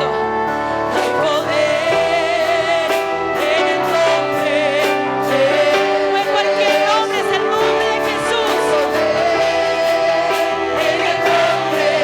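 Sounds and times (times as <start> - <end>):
band accompaniment: 0.0 - 12.0
person singing with vibrato: 0.0 - 12.0
sustained keyboard chords: 0.0 - 12.0.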